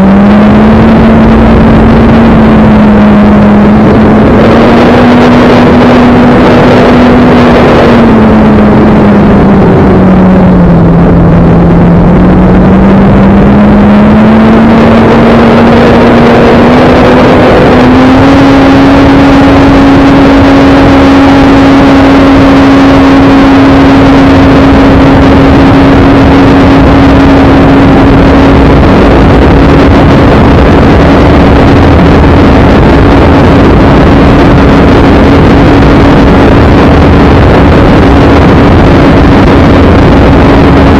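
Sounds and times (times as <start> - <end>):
loud rushing noise: 0.0 - 40.9
model airplane propeller droning: 0.0 - 40.9.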